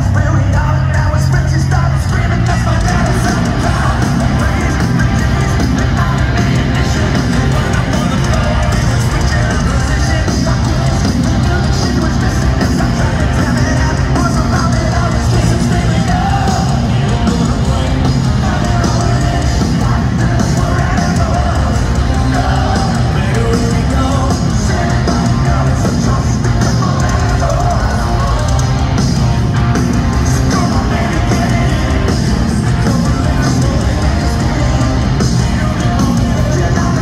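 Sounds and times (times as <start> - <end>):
person singing: 0.0 - 29.0, 30.1 - 37.0
live hard rock band: 0.0 - 37.0.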